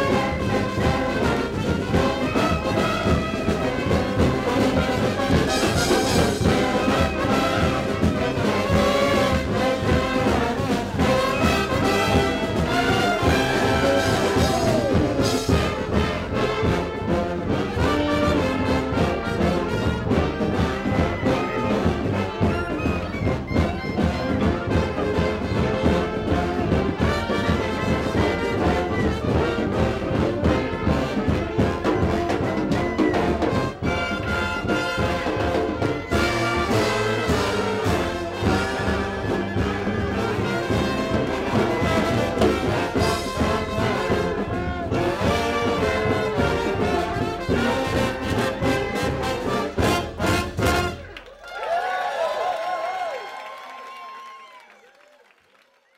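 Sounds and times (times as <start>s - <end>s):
brass band playing: 0.0s - 51.3s.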